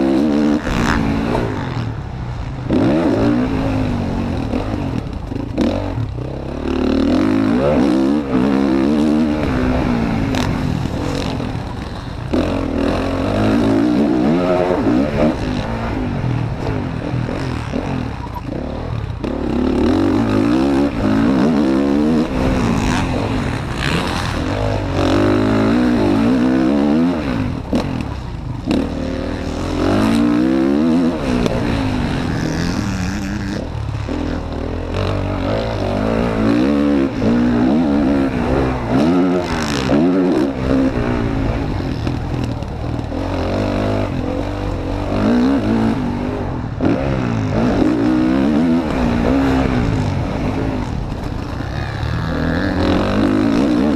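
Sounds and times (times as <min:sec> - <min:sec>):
motocross bike engine revving: 0:00.0 - 0:53.9
wind: 0:00.0 - 0:53.9.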